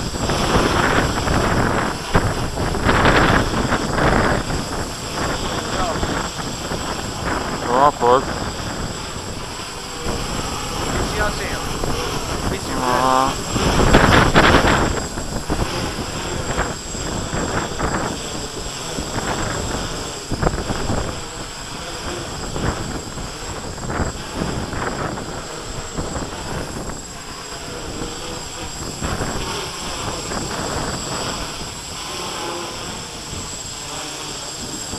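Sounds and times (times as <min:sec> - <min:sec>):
quadcopter motors buzzing: 0:00.0 - 0:34.9
wind buffeting microphone: 0:00.0 - 0:34.9.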